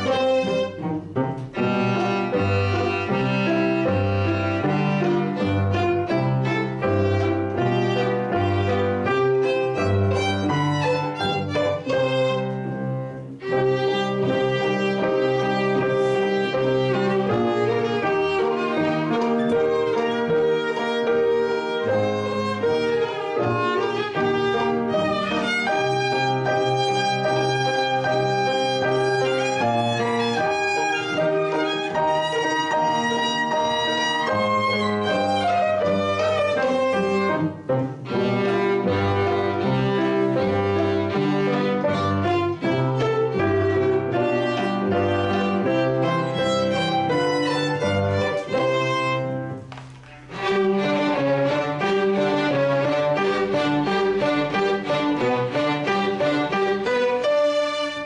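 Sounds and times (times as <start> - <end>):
string orchestra playing: 0.0 - 58.0.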